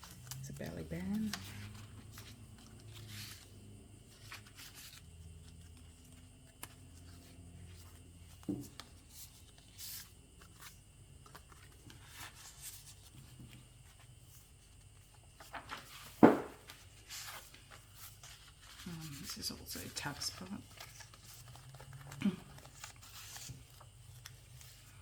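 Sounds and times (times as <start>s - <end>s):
paper rustling: 0.0s - 25.0s.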